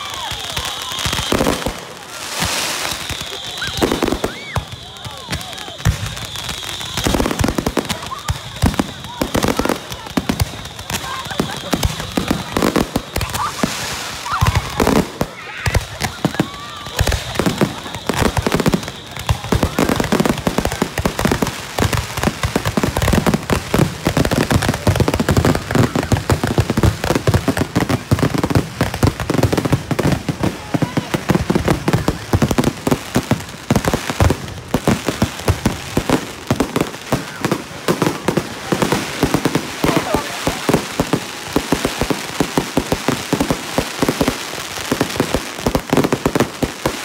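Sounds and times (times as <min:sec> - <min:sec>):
fireworks popping and crackling: 0:00.0 - 0:47.0
people's voices: 0:00.0 - 0:47.0.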